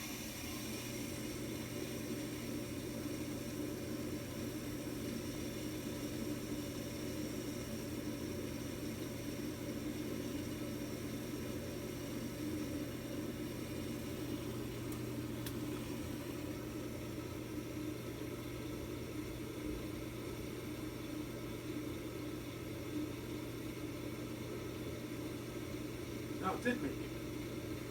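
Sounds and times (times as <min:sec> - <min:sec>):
gas furnace droning hum: 0:00.0 - 0:27.9.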